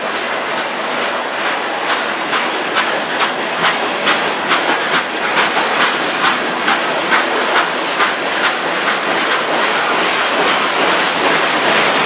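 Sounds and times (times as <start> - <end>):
freight train rolling past: 0.0 - 12.0
wheels clicking over rail joints: 0.0 - 12.0.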